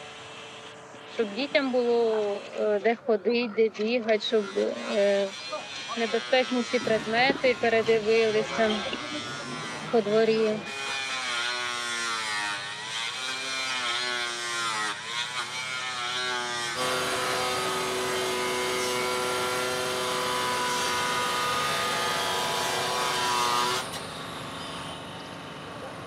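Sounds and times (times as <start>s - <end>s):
power tool motor running: 0.0s - 3.0s, 3.8s - 26.0s.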